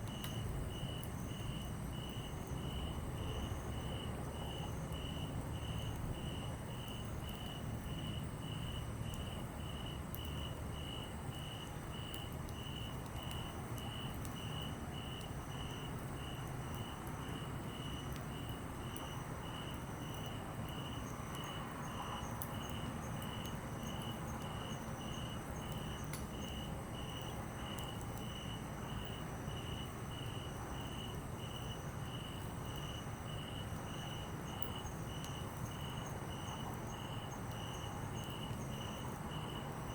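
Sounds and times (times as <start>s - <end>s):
campfire crackles: 0.0s - 39.9s
cricket chirping: 0.0s - 39.9s
faint high insect call: 0.0s - 39.9s.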